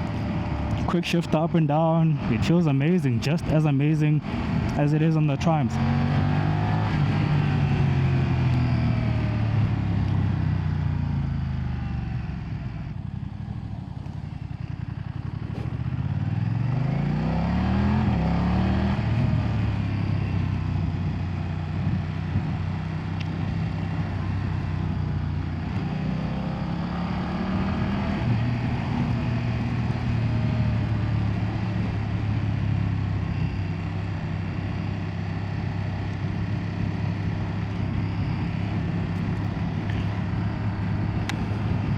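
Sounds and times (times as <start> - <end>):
motorcycle engine revving: 3.3 - 41.9.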